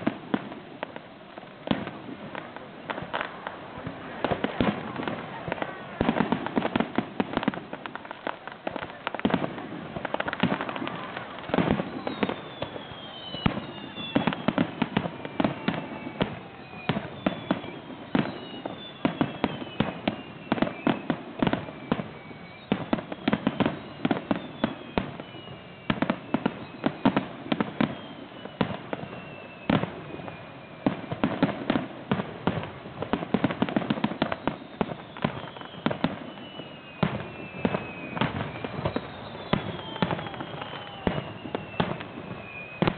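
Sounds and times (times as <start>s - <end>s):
fireworks bangs and crackling: 0.0s - 42.9s
fireworks whistling: 0.0s - 42.9s.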